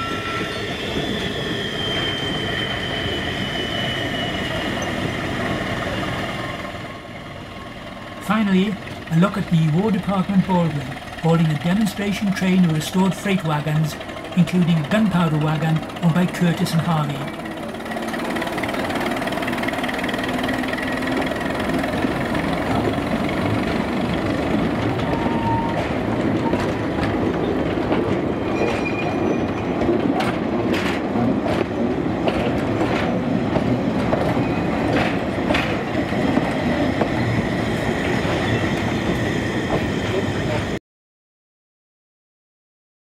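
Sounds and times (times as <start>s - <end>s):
wheels rumbling on rail: 0.0s - 40.8s.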